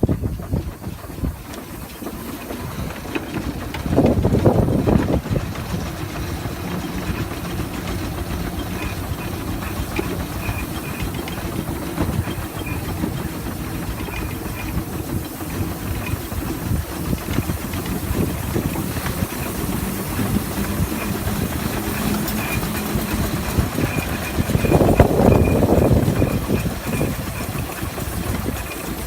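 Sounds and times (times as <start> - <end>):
steam hissing: 0.0 - 29.0
steam traction engine running: 0.0 - 29.0.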